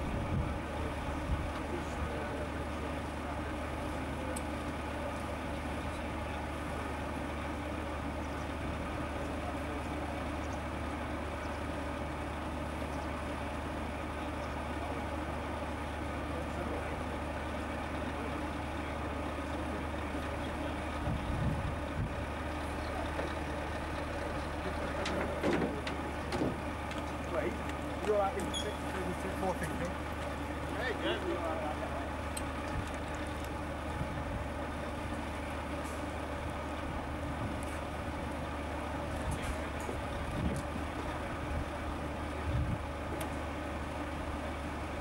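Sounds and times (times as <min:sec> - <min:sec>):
truck diesel engine idling: 0:00.0 - 0:45.0.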